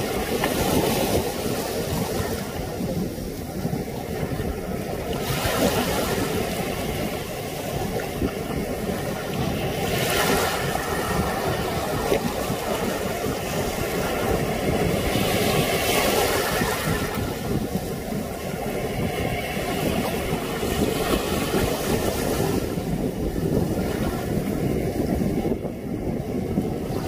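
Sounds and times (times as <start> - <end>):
small waves washing on sand: 0.0 - 27.0.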